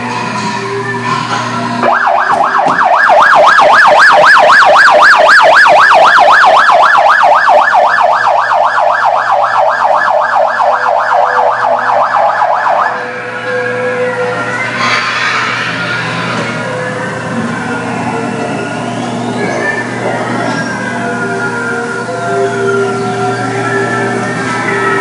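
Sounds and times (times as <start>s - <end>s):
warbling siren: 0.6s - 25.0s.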